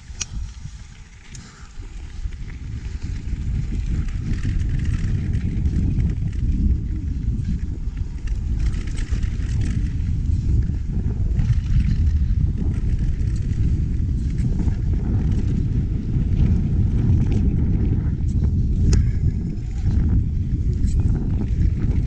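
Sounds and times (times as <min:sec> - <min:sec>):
bike rattle: 0:00.0 - 0:22.0
wind buffeting microphone: 0:00.0 - 0:22.0.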